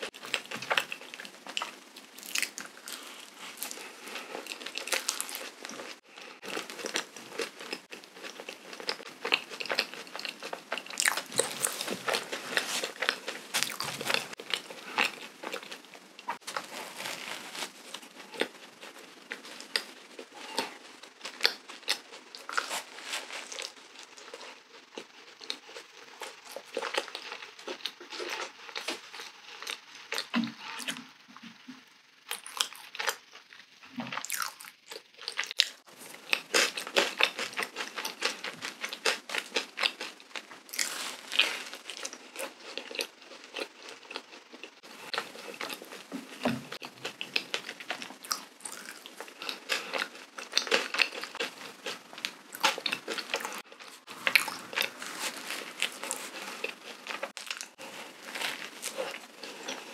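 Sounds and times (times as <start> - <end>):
close-miked chewing: 0.0 - 31.7, 32.3 - 59.9.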